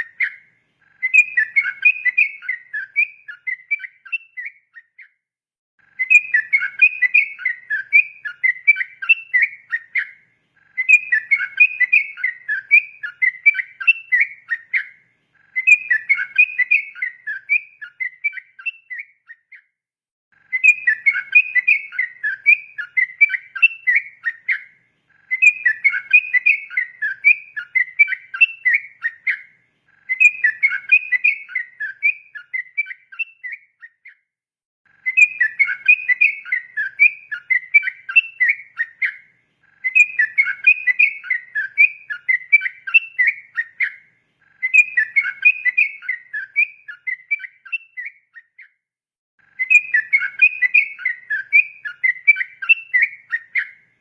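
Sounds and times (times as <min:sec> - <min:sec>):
bulbul singing bubbly whistles: 0:00.0 - 0:05.0, 0:06.0 - 0:10.2, 0:10.8 - 0:19.6, 0:20.5 - 0:34.2, 0:35.0 - 0:44.0, 0:44.6 - 0:48.6, 0:49.6 - 0:53.9.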